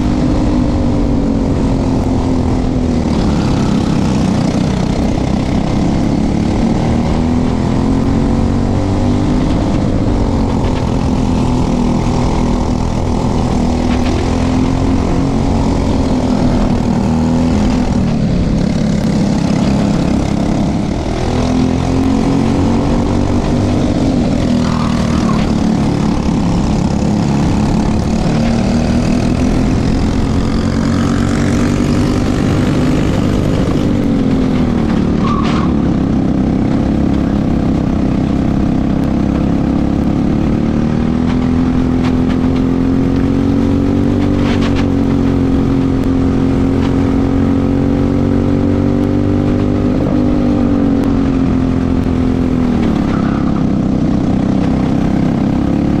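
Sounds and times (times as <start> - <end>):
kart engine at racing speed: 0.0 - 56.0.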